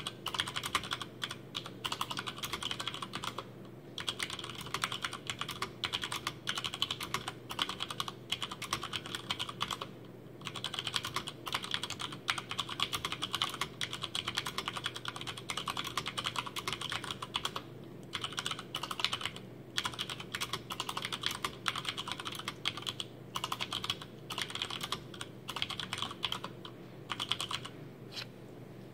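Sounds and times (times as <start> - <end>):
fast typing on mechanical keyboard: 0.0 - 27.7.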